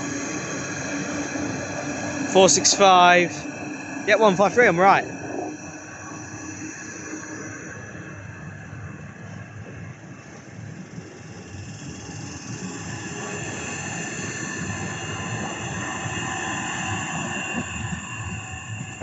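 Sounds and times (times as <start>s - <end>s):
electric train passing: 0.0s - 9.1s, 10.8s - 19.0s
high steady motor tones: 0.0s - 19.0s.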